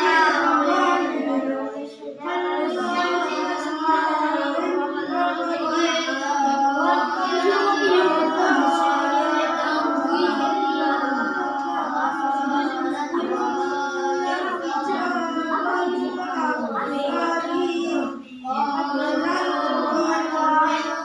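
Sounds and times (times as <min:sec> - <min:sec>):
children chanting: 0:00.0 - 0:21.0.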